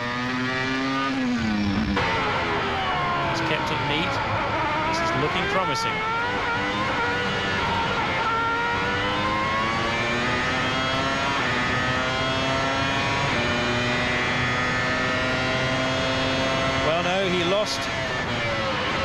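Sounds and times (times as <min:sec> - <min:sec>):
racing engine accelerating: 0:00.0 - 0:19.0.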